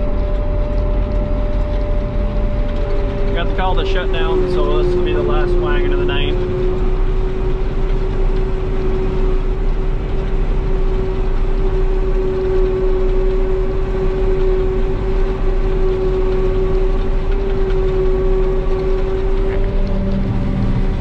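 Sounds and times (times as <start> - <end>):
constant humming tone: 0.0 - 21.0
harvester machine drone: 0.0 - 21.0.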